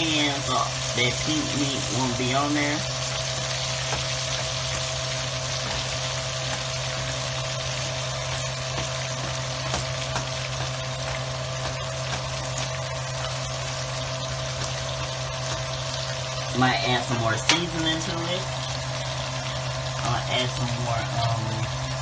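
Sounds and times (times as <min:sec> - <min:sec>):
meat sizzling in frying pan: 0:00.0 - 0:22.0.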